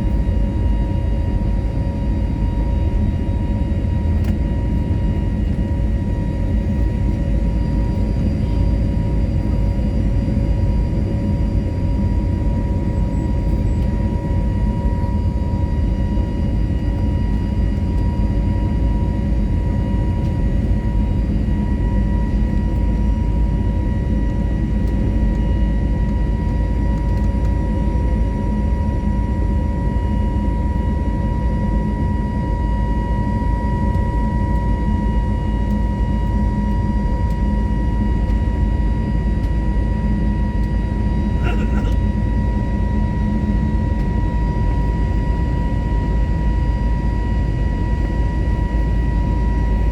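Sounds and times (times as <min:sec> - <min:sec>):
aircraft cabin engine rumble: 0:00.0 - 0:49.9
thin steady whine: 0:00.0 - 0:49.9.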